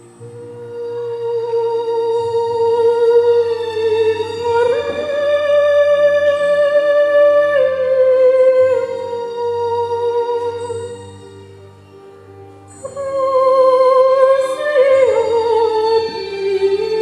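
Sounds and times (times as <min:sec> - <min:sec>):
operatic singing voice with vibrato: 0:00.0 - 0:11.5, 0:12.8 - 0:17.0
quiet instrumental accompaniment: 0:00.0 - 0:17.0.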